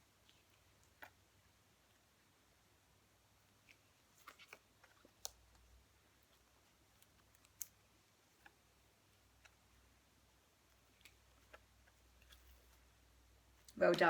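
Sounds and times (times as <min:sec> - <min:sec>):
faint irregular clicks: 0:00.0 - 0:02.6, 0:03.2 - 0:14.0.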